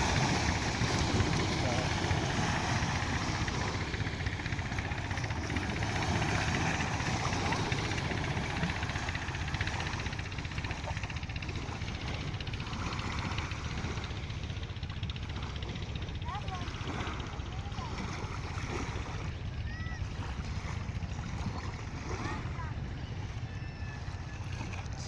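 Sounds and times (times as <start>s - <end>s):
motorboat engine chugging: 0.0s - 25.0s.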